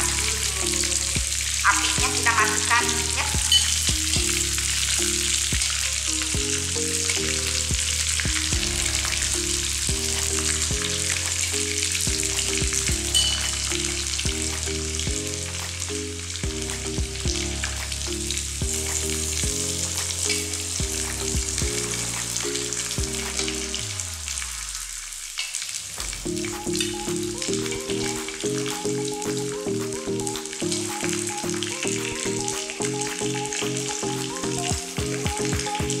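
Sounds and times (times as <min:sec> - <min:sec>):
background music: 0:00.0 - 0:24.9, 0:26.0 - 0:36.0
meatballs sizzling in oil: 0:00.0 - 0:33.8.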